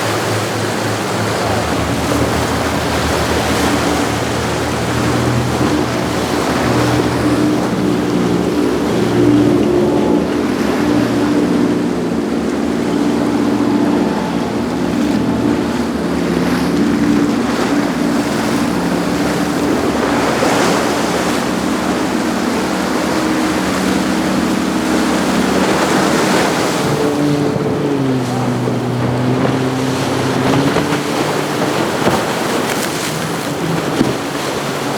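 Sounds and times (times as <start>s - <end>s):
boat engines humming: 0.0s - 34.9s
rushing water and waves: 0.0s - 34.9s
wind on microphone: 0.0s - 34.9s.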